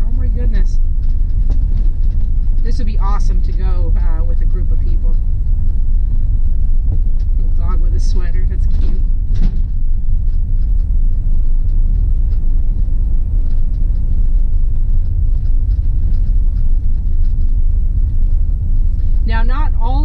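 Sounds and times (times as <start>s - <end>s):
road noise inside cabin: 0.0s - 20.0s
van engine rumble: 0.0s - 20.0s.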